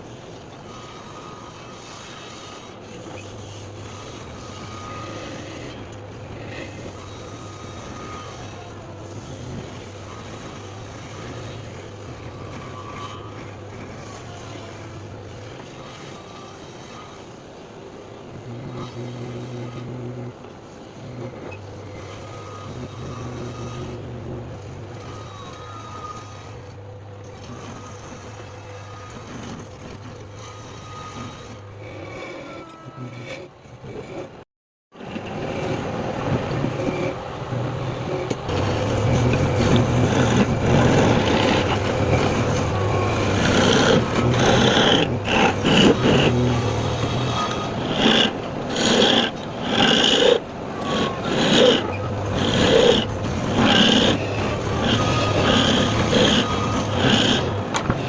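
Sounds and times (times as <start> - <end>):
lathe motor hum: 0.0 - 32.6, 35.0 - 58.0
tool scraping spinning wood: 0.0 - 34.4, 35.0 - 58.0.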